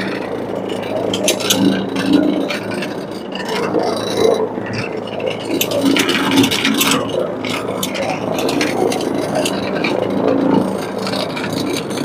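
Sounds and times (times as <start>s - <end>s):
cleaning machine hum: 0.0s - 12.0s.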